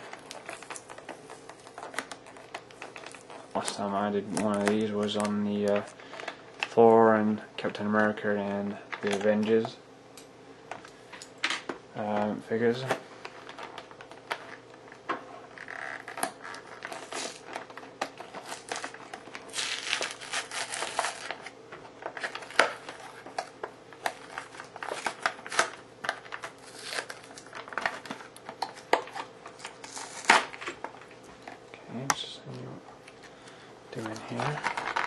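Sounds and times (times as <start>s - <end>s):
plastic rustling: 0.0s - 7.7s, 12.7s - 31.6s, 33.3s - 35.0s
plastic packaging crinkling and snapping: 0.0s - 9.7s, 10.7s - 35.0s.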